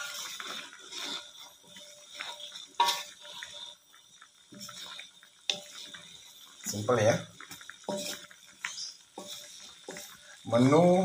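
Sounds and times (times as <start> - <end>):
wooden spatula scraping metal wok: 0.0 - 11.0.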